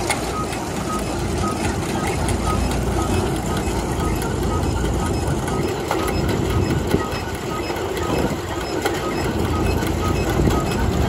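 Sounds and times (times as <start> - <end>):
light regular ticking: 0.0 - 11.0
threshing machine clatter: 0.0 - 11.0
tractor engine: 0.0 - 11.0.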